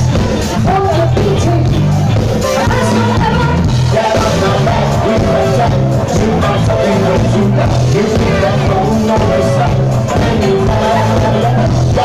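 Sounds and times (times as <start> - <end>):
bass: 0.0 - 12.0
drums: 0.0 - 12.0
live rock band playing: 0.0 - 12.0
person singing: 0.2 - 12.0.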